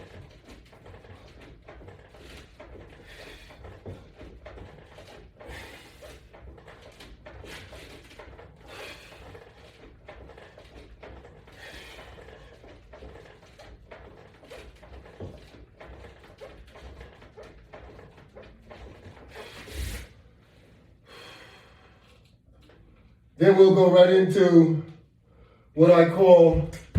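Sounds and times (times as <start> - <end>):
exercise machine clicks and creaks: 0.0 - 26.9.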